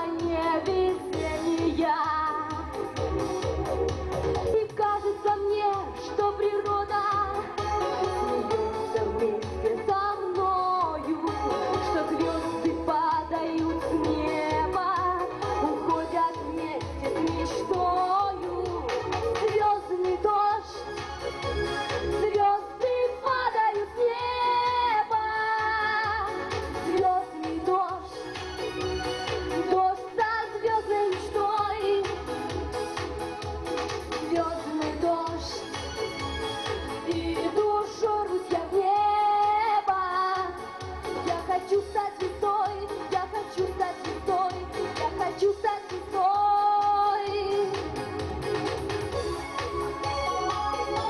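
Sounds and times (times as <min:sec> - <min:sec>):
backing music with steady beat: 0:00.0 - 0:51.0
woman singing pop song: 0:00.0 - 0:51.0.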